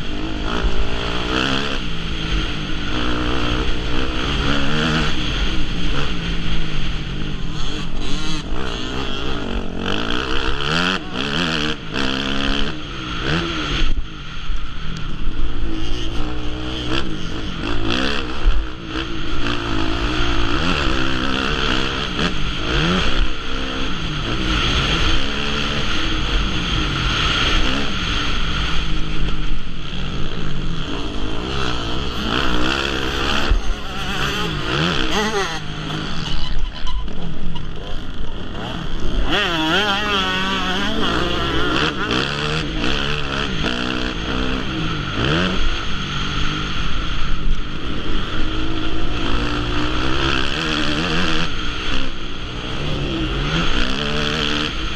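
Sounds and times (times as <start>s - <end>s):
dirt bike engines revving: 0.0s - 54.9s.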